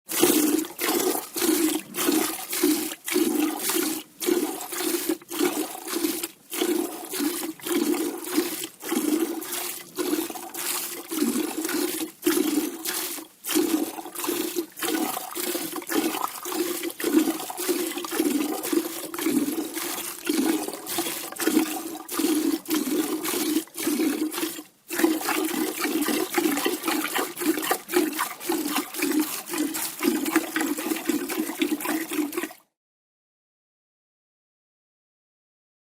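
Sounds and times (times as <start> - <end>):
milk squirting into a pail: 0.1 - 32.6.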